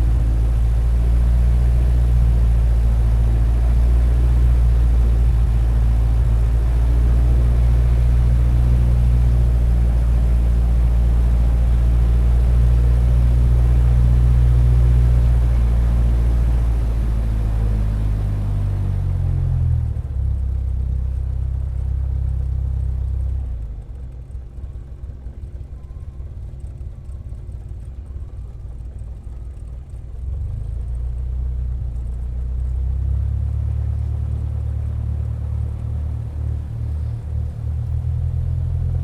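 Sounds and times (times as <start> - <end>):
propeller plane engine rumbling: 0.0 - 39.0.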